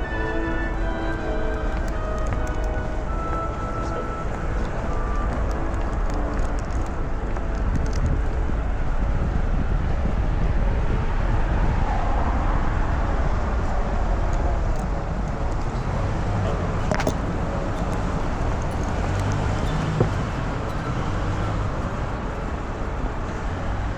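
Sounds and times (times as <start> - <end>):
road traffic rumble: 0.0 - 23.9
wind buffeting microphone: 0.0 - 23.9.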